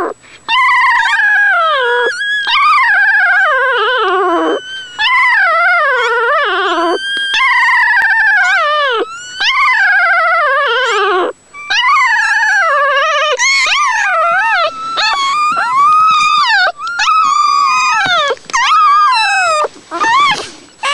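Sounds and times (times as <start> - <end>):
newborn puppy crying: 0.0 - 20.9.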